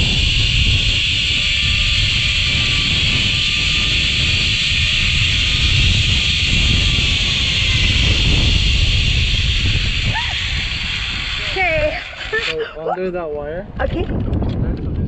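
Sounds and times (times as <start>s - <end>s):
zipline pulleys whirring on cable: 0.0s - 13.0s
wind rumble on microphone: 0.0s - 15.0s.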